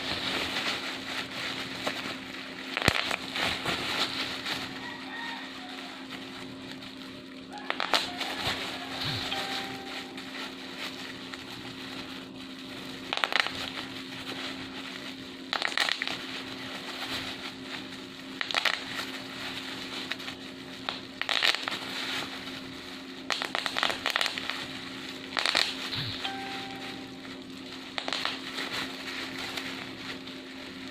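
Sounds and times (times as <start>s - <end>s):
bubble wrap popping: 0.0s - 30.9s
plastic crackling and crinkling: 0.0s - 30.9s.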